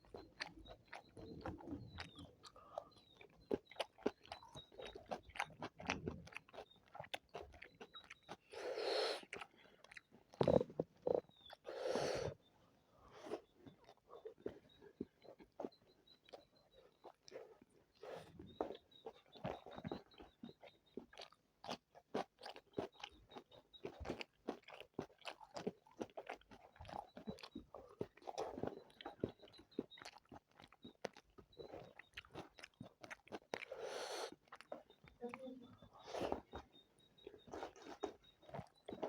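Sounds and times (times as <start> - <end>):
close-miked chewing: 0.0 - 39.0.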